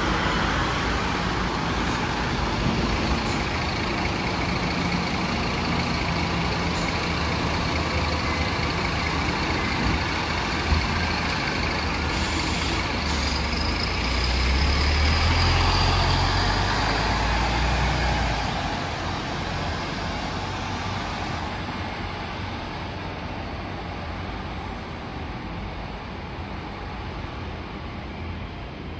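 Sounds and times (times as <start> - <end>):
bus engine rumbling: 0.0 - 28.9.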